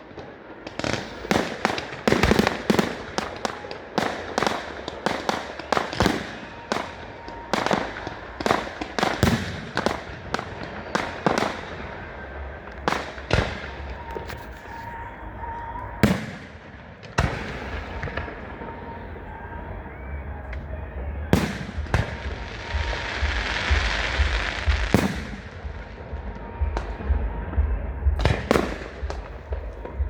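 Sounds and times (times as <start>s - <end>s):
fireworks bangs echoing: 0.0s - 30.0s.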